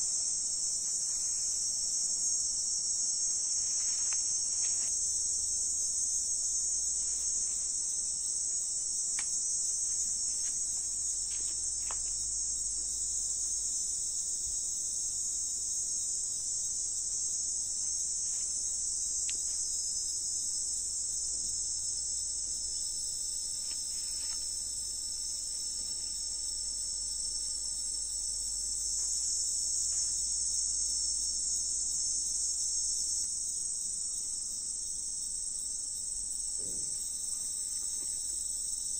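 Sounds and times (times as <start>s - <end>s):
insects chorus high-pitched shrill: 0.0s - 38.9s.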